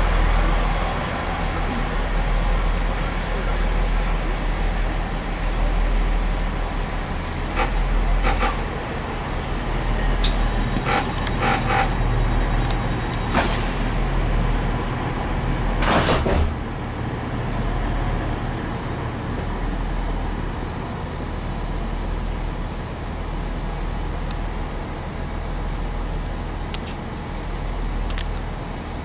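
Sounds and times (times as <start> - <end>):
train rumbling inside carriage: 0.0 - 29.0.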